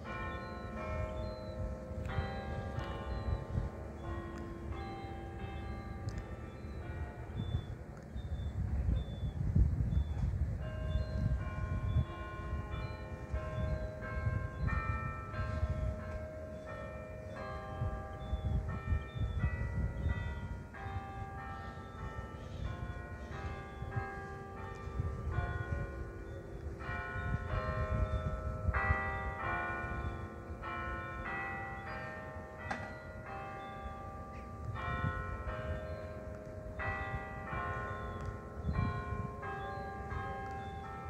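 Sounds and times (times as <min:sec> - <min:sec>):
church bells ringing a melody: 0:00.0 - 0:41.0.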